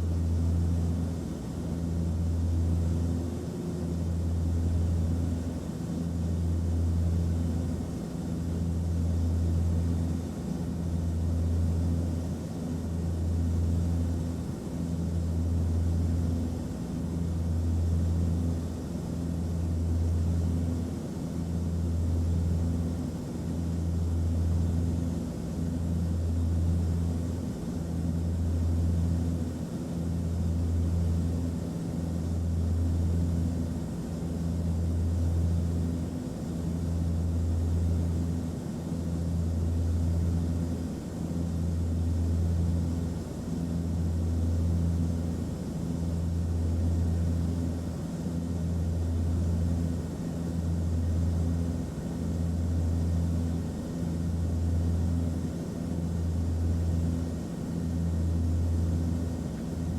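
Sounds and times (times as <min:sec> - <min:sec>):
airliner engine drone: 0:00.0 - 0:59.9.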